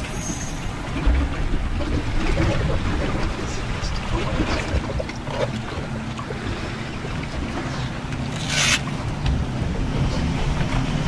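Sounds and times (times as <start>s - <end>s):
outboard engines idling: 0.0s - 11.0s
water around hull: 0.0s - 11.0s
wind: 0.0s - 11.0s.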